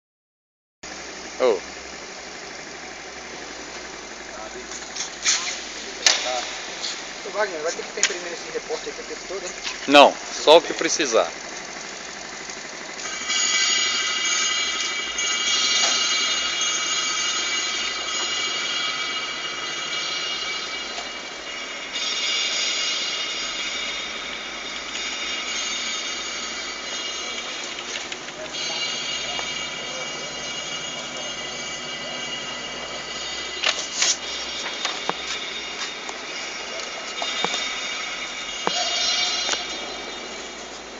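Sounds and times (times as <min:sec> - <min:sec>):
rough machine hum: 0:00.8 - 0:40.9
machinery high-pitched whine: 0:00.9 - 0:40.9.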